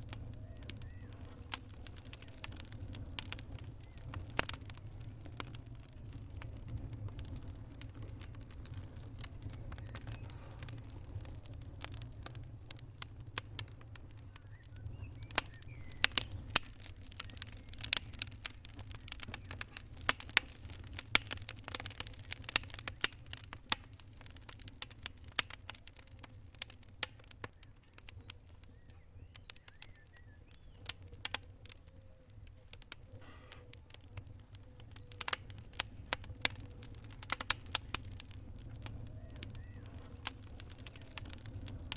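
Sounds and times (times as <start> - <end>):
fire crackling: 0.0 - 41.9.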